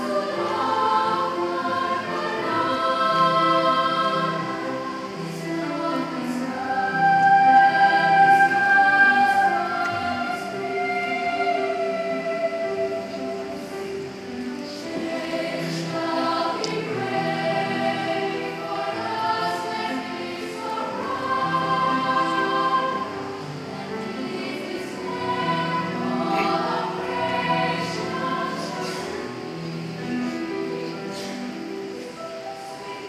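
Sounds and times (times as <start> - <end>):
children's choir singing a carol: 0.0 - 33.0.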